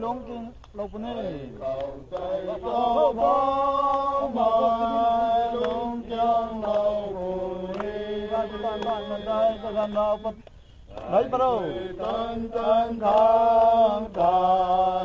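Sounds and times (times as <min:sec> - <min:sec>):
men singing a hymn: 0:00.0 - 0:15.0.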